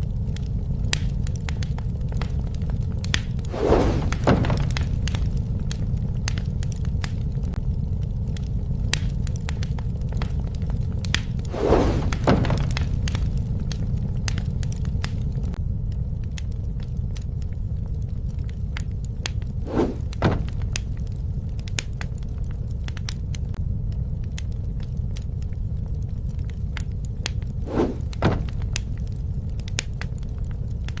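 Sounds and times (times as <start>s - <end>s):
campfire crackling and popping: 0.0s - 31.0s
low fire rumble: 0.0s - 31.0s.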